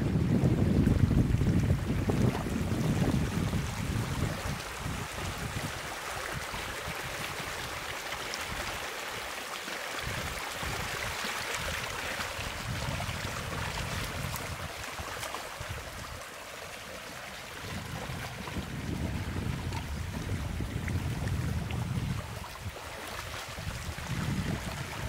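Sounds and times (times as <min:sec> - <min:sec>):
wind gusting on microphone: 0:00.0 - 0:07.8, 0:10.0 - 0:16.2, 0:17.5 - 0:25.0
flowing water rushing: 0:00.0 - 0:25.0.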